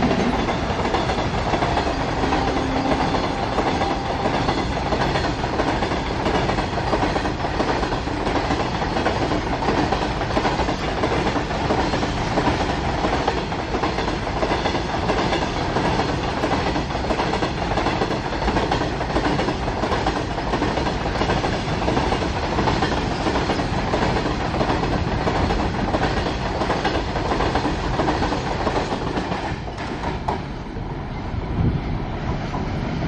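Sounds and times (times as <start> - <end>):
train wheels rushing on rails: 0.0 - 33.0.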